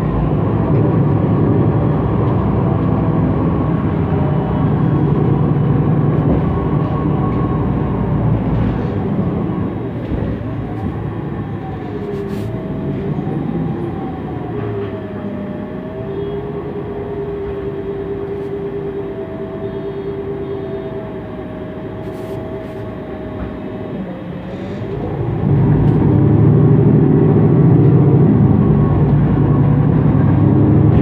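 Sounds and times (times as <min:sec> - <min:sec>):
bus engine accelerating: 0:00.0 - 0:31.0
steady whine: 0:00.0 - 0:31.0.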